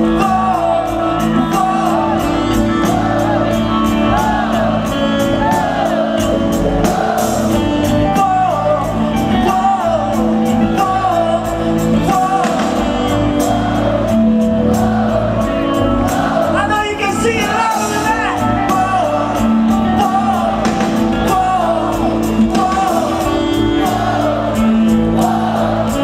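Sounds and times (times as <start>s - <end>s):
electric guitars: 0.0s - 26.0s
keyboard: 0.0s - 26.0s
person singing lead vocals: 0.0s - 26.0s
steady drum beat: 0.0s - 26.0s.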